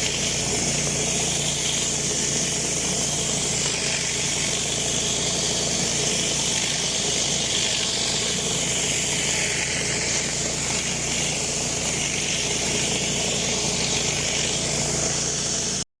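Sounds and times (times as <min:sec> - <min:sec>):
pressure washer motor hum: 0:00.0 - 0:15.9
water spraying onto concrete: 0:00.0 - 0:15.9.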